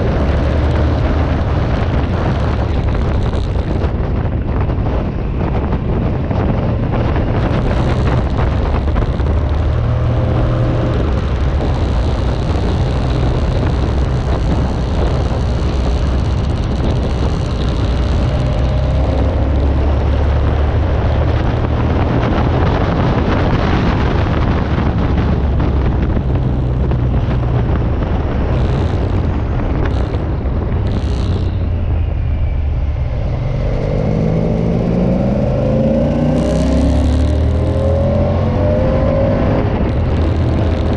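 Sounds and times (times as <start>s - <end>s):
motorcycle engine drone: 0.0s - 40.9s
wind noise on microphone: 0.0s - 40.9s.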